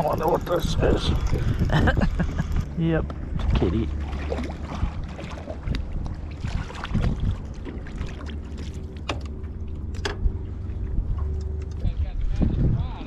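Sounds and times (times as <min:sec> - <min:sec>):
water around boat: 0:00.0 - 0:13.0
wind rumble on microphone: 0:00.0 - 0:13.0.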